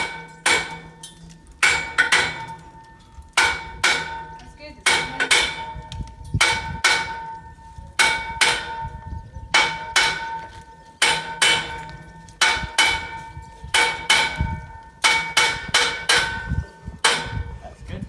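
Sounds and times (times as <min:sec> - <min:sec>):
hammer striking steel: 0:00.0 - 0:17.5.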